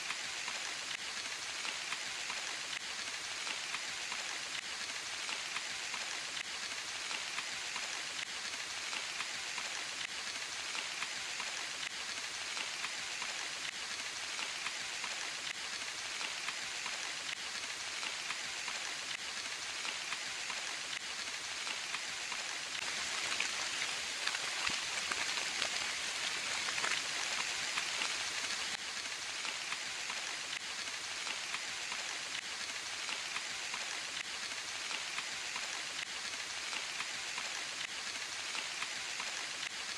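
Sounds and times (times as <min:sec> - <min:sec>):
rain patter in forest: 0:00.0 - 0:39.9.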